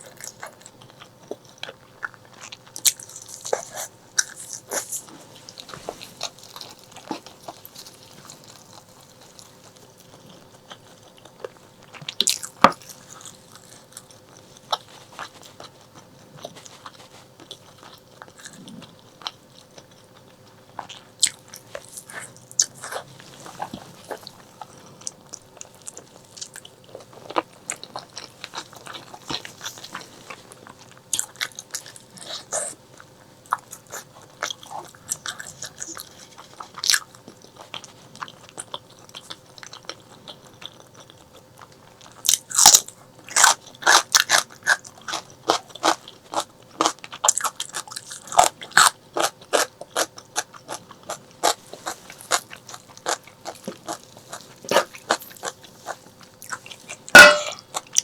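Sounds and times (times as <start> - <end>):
close chewing and lip smacks: 0.0 - 58.0.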